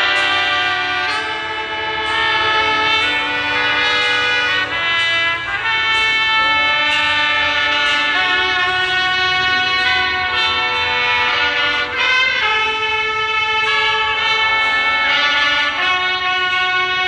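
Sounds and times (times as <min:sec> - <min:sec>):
orchestra playing slow chords: 0:00.0 - 0:17.0.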